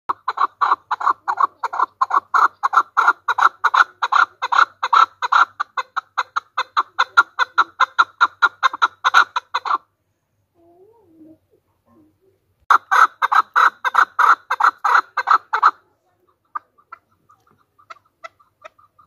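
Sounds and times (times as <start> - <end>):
partridge calling: 0.1 - 9.8, 12.7 - 19.0.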